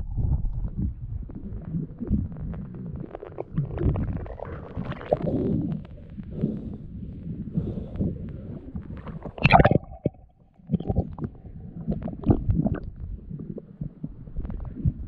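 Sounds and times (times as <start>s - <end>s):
muffled underwater rumbling: 0.0s - 15.0s.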